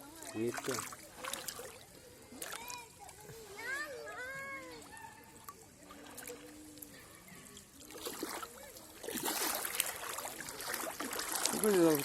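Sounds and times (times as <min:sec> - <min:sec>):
faint voices: 0:00.0 - 0:12.0
water splashing and trickling: 0:00.0 - 0:12.0.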